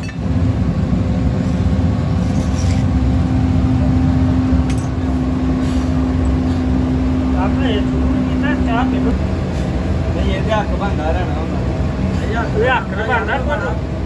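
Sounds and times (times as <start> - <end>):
motor running with low hum: 0.0 - 14.0.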